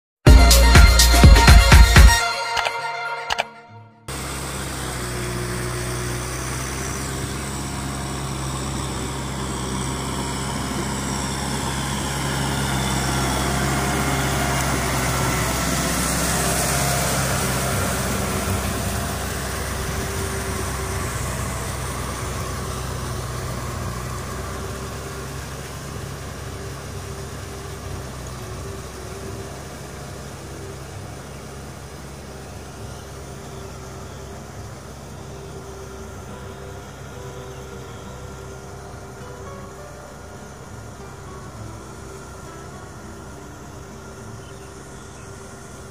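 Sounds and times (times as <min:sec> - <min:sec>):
tractor diesel engine under load: 0:00.2 - 0:02.2, 0:04.0 - 0:45.9
mud and water splashing: 0:04.1 - 0:45.9.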